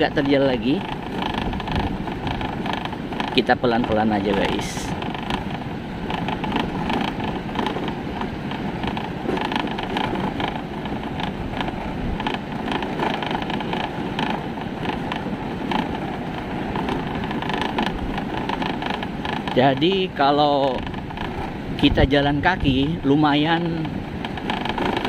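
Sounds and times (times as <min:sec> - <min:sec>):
knocks from rough road surface: 0:00.0 - 0:20.1, 0:23.8 - 0:25.0
motorcycle engine running low: 0:00.0 - 0:25.0
wind buffeting microphone: 0:00.0 - 0:25.0.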